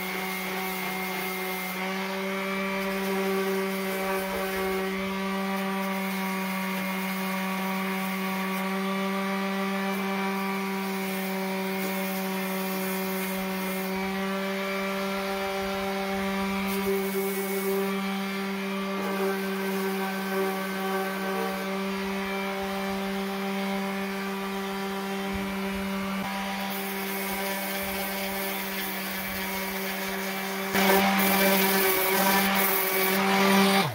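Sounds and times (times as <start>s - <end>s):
electric sander on metal: 0.0s - 33.9s.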